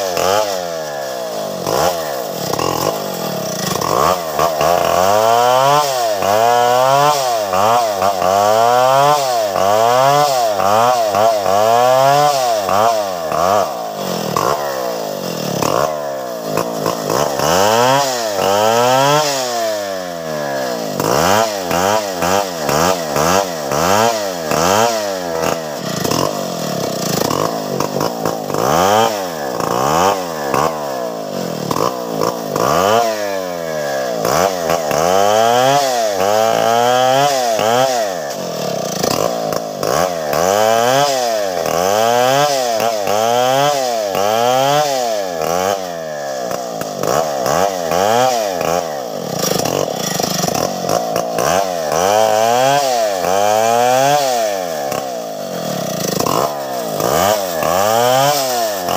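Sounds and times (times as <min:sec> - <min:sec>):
chainsaw cutting and revving: 0:00.0 - 0:58.9.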